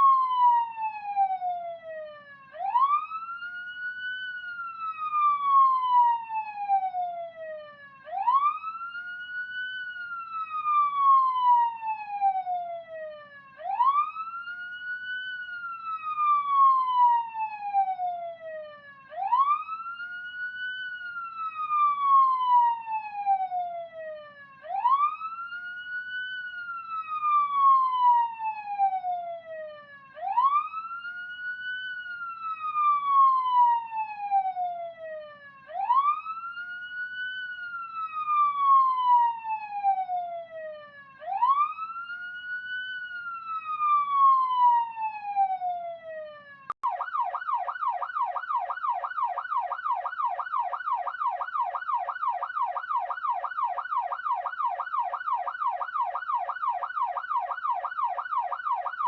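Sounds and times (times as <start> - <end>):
police siren wailing: 0.0 - 59.0.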